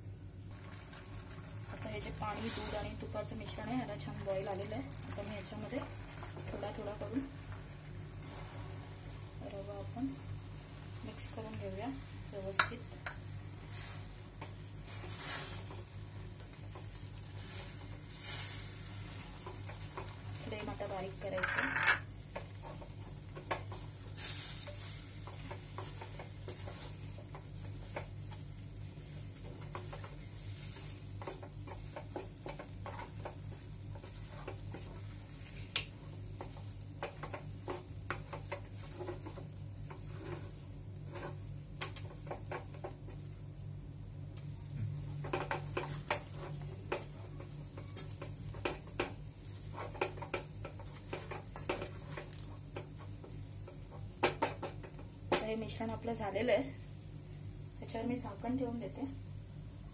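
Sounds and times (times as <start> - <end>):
wooden spatula scraping dough in pot: 0.5 - 43.6, 44.8 - 56.4
steady low hum: 1.6 - 54.0.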